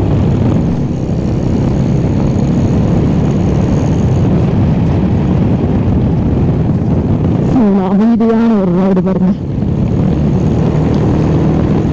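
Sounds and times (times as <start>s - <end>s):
motorcycle engine rumble: 0.0s - 11.9s
wind buffeting: 0.0s - 11.9s.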